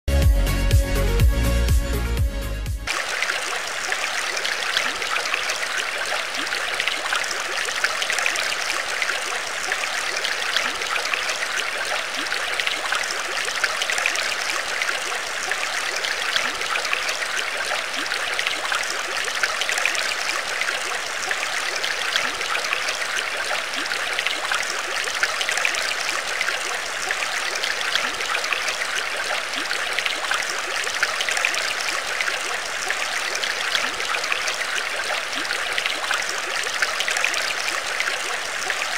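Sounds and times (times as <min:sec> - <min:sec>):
water trickling and bubbling: 0:02.9 - 0:38.9.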